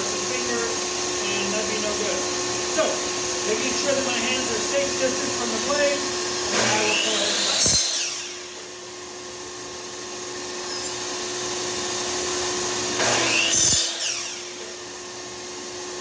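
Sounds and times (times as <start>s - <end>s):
miter saw cutting wood: 0.0s - 16.0s
shop vacuum whining: 0.0s - 16.0s.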